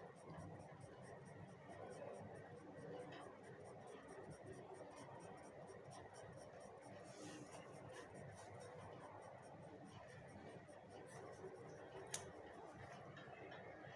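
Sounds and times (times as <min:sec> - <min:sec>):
pencil scratching on paper: 0:00.0 - 0:13.6.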